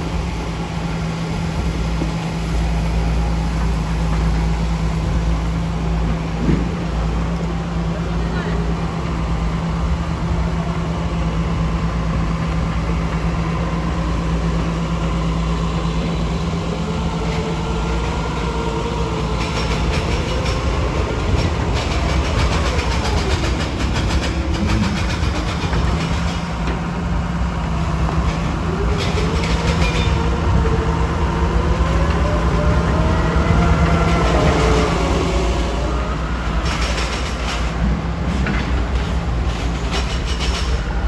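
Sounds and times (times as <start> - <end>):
heavy machinery engine drone: 0.0 - 41.0.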